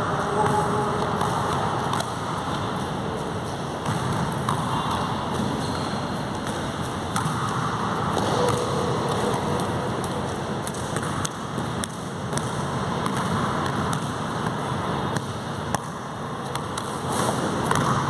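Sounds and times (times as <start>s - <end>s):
rushing noise in hall: 0.0s - 18.0s.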